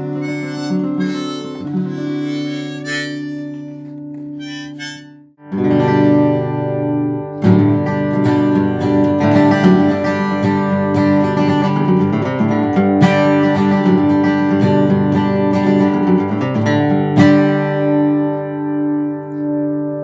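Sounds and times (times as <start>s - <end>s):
acoustic guitar flatpicked melody: 0.0s - 20.0s.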